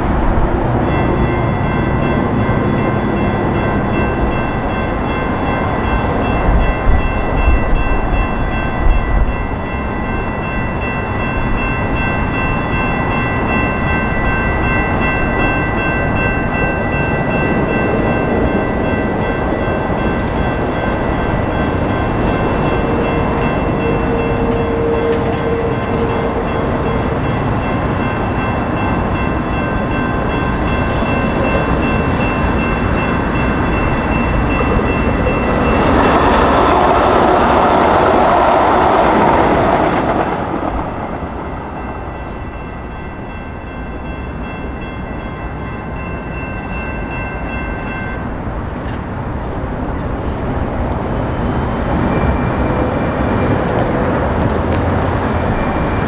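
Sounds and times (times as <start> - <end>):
light rail train passing: 0.0 - 56.0
railroad crossing bells ringing: 0.0 - 56.0.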